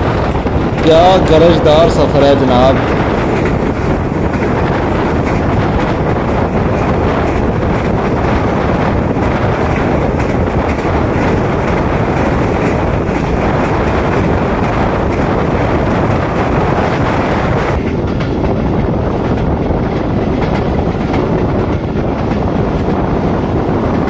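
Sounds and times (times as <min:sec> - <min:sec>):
train wheel and rail noise: 0:00.0 - 0:24.0
wind on microphone: 0:00.0 - 0:24.0.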